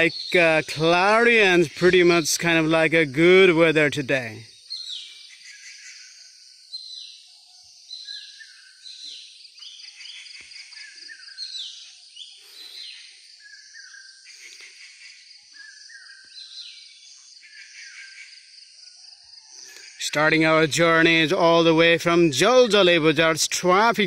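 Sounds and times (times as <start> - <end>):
birds calling with falling notes: 0.0 - 18.4, 19.4 - 24.0
insects trilling: 0.0 - 24.0.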